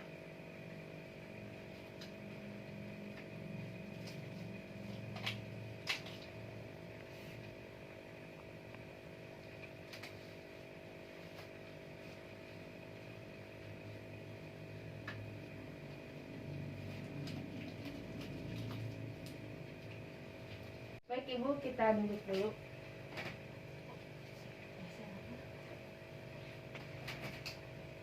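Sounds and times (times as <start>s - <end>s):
motor hum: 0.0s - 28.0s.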